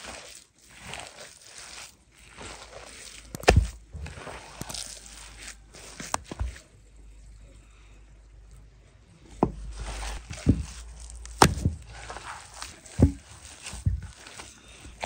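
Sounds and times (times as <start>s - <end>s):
wet mixture squelching: 0.0s - 15.0s.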